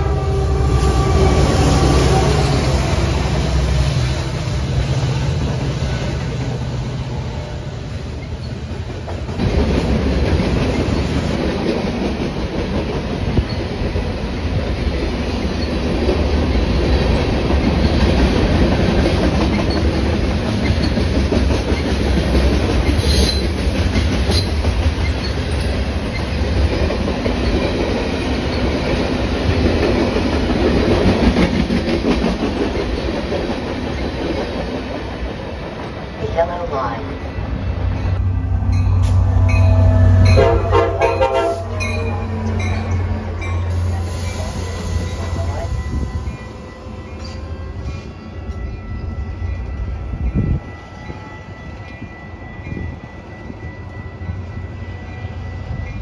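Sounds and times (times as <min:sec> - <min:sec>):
steel wheels on rails: 0:00.0 - 0:56.0.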